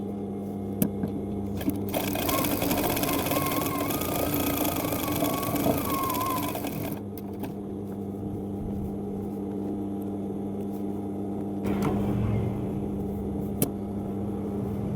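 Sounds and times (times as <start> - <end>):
low mechanical hum: 0.0 - 14.9.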